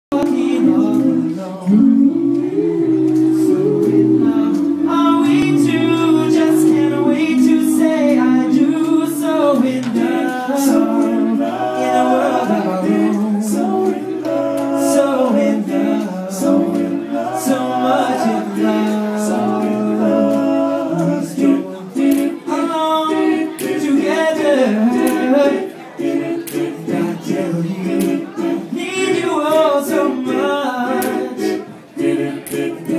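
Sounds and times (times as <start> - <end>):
percussive clicking beat: 0.1 - 30.0, 30.9 - 31.6, 32.4 - 32.9
male group singing in harmony: 0.1 - 32.9.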